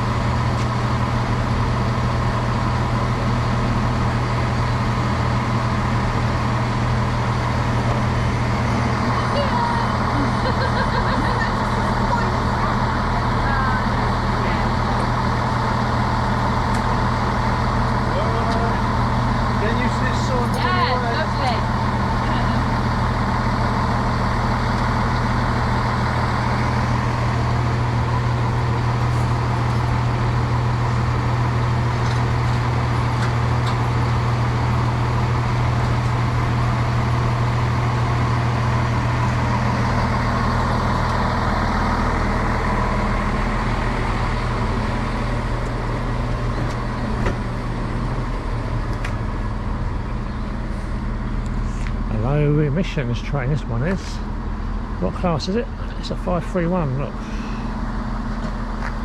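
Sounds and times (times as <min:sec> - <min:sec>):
train engine humming: 0:00.0 - 0:59.0.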